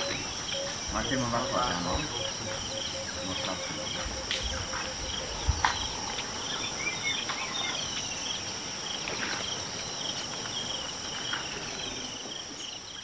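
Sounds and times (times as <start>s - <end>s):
high-pitched insect trill: 0.0s - 13.0s
pulsing insect chirp: 0.0s - 13.0s.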